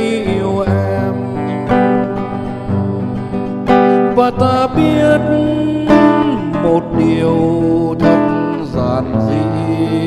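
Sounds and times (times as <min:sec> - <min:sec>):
classical guitar plucking: 0:00.0 - 0:10.0.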